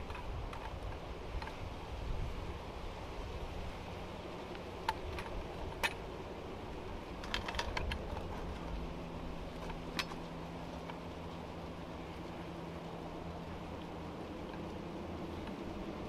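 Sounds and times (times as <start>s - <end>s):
climbing gear clinking: 0.0s - 1.7s, 4.5s - 16.0s
low steady rumble: 0.0s - 16.0s
steady hum: 0.0s - 16.0s.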